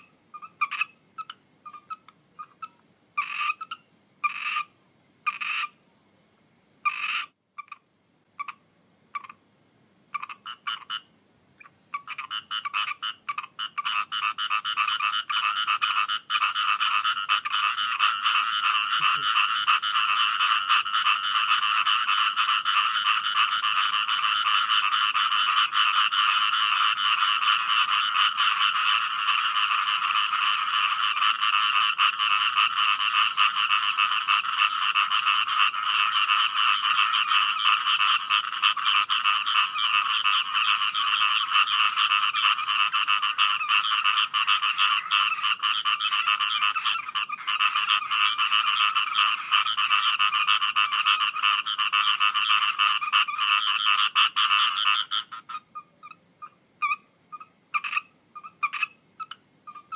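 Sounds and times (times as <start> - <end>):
frogs croaking: 0.0 - 59.9.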